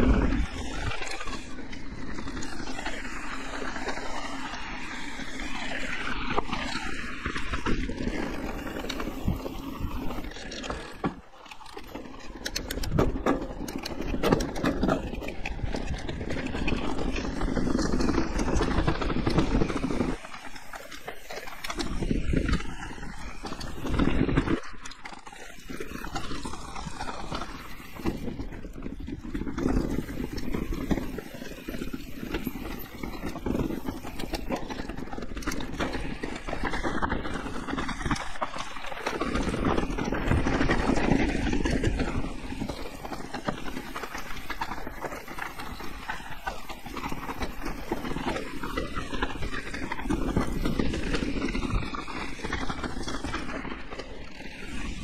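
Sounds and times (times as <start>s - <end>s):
bike clattering over bumps: 0.0s - 55.0s
tyres rolling over dirt and rock: 0.0s - 55.0s.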